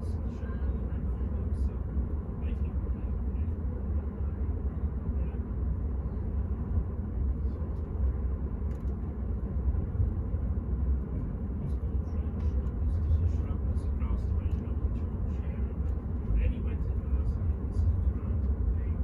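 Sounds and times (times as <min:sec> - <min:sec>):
train rumble from inside coach: 0:00.0 - 0:19.0.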